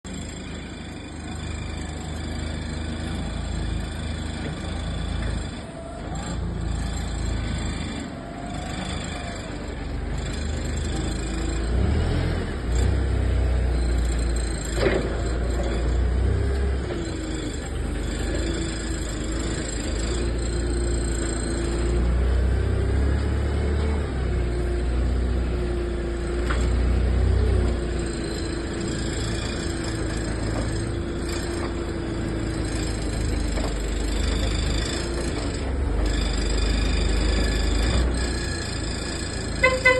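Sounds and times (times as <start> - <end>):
heavy machine engine rumbling: 0.0 - 39.9.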